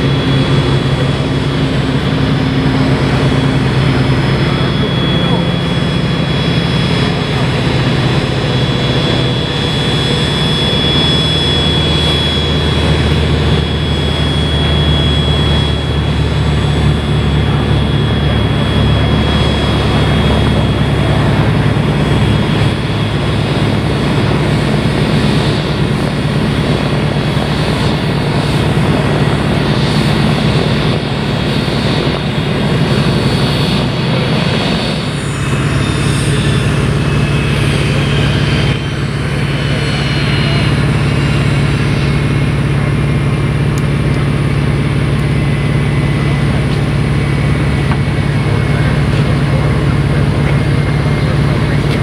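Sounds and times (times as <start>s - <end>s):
jet engine whine: 0.0s - 52.0s
low hum: 0.0s - 52.0s.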